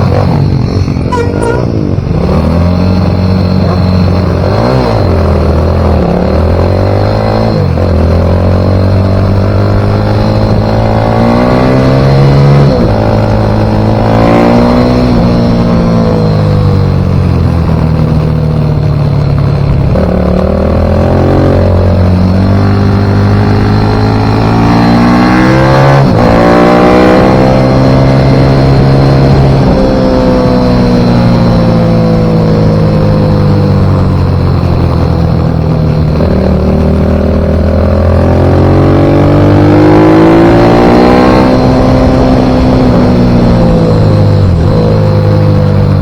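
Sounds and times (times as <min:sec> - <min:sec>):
pit bike engine revving: 0:00.0 - 0:46.0.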